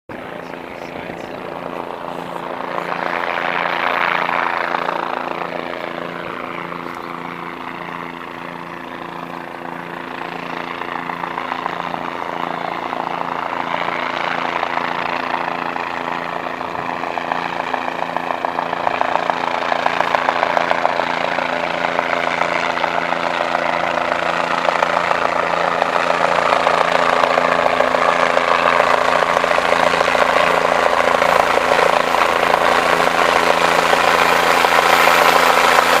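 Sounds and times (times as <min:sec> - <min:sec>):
descending whine: 0:00.1 - 0:36.0
helicopter rotor chop: 0:00.1 - 0:36.0.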